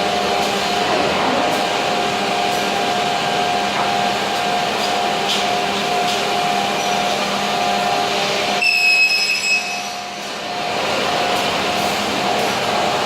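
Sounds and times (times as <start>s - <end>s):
high machine whine: 0.0s - 13.0s.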